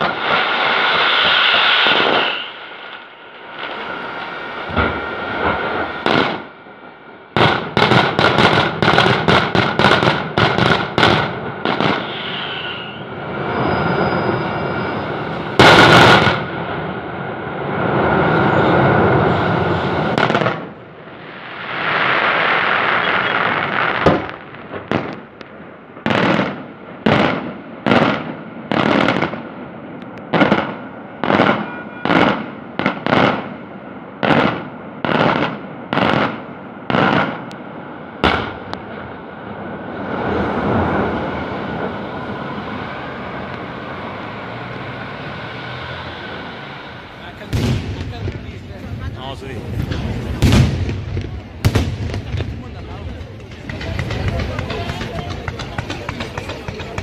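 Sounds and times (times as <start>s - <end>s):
steady rushing noise: 0.0s - 26.0s, 35.6s - 57.0s
fireworks bangs: 0.0s - 57.0s
heavy fireworks blast: 0.0s - 57.0s.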